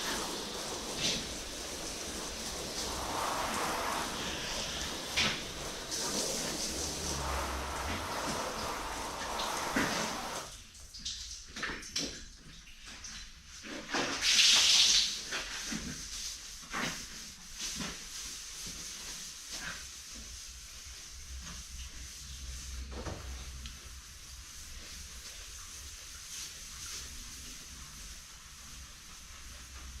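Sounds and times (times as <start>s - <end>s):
water running and spraying: 0.0s - 12.2s, 12.8s - 30.0s.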